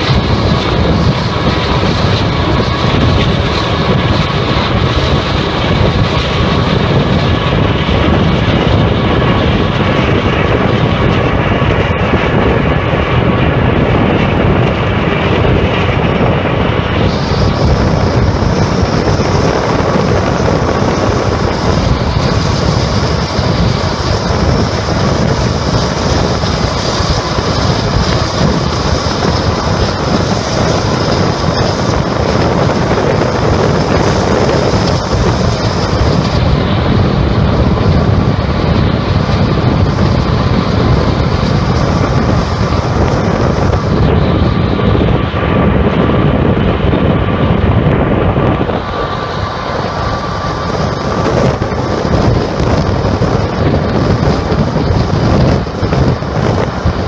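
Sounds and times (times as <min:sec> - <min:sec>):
diesel locomotives: 0:00.0 - 0:57.0
vehicle rumble and rush: 0:00.0 - 0:57.0
wind on microphone: 0:00.0 - 0:57.0.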